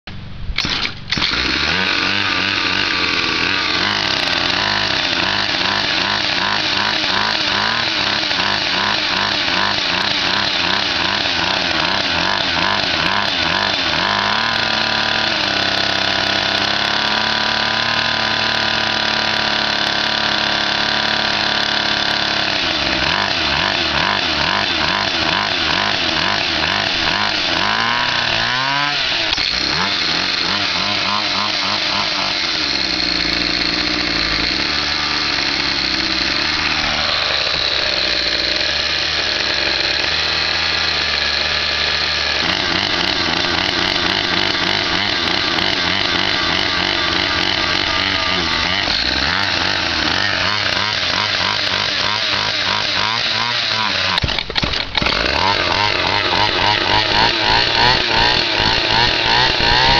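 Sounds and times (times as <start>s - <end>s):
small dirt bike engine running: 0.5s - 59.9s.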